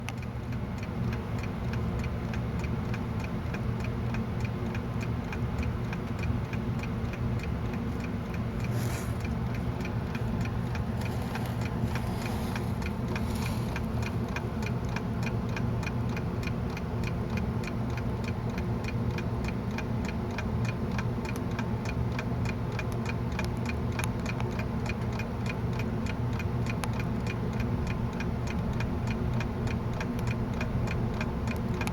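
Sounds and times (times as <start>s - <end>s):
steady low hum: 0.0s - 31.9s
alarm clock ticking fast: 0.5s - 31.9s.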